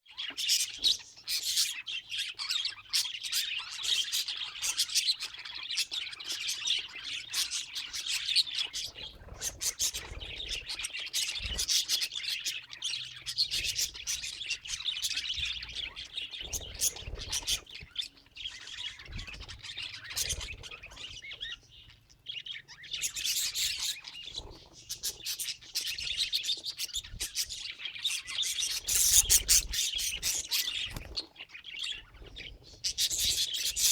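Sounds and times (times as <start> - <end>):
budgerigars chirping and chattering: 0.1 - 33.9.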